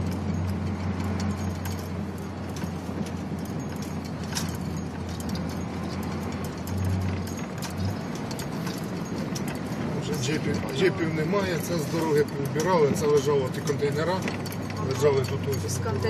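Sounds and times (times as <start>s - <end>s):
engine and road drone: 0.0s - 16.0s
light clicks and knocks: 0.0s - 16.0s.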